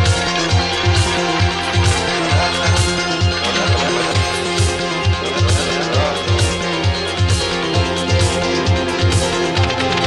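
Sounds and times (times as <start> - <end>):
electronic drum beat: 0.0 - 10.0
synthesizer chords and melody: 0.0 - 10.0.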